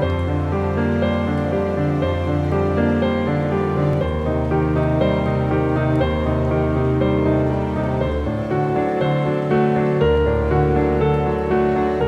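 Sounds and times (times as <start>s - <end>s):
soft piano instrumental: 0.0s - 12.0s.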